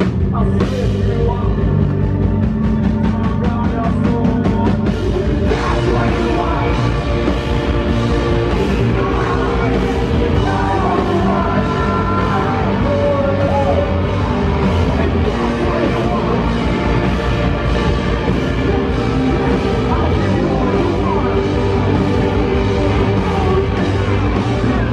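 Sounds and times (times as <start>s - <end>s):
drums: 0.0s - 24.9s
electric guitar: 0.0s - 24.9s
keyboard: 0.0s - 24.9s.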